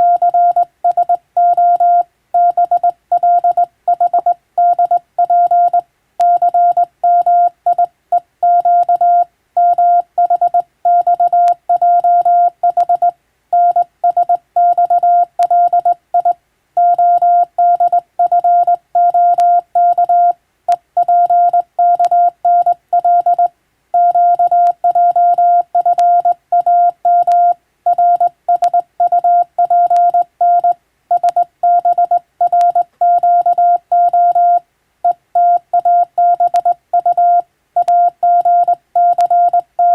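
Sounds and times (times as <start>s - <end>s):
morse code tone: 0.0s - 20.4s, 21.0s - 39.9s.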